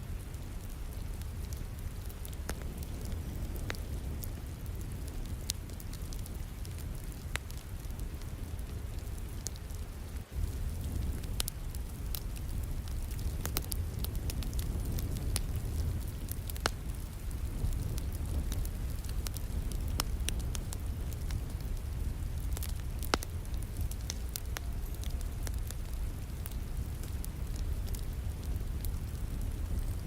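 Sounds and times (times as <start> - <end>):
low rain: 0.0 - 30.0
wood fire crackling: 0.0 - 30.0.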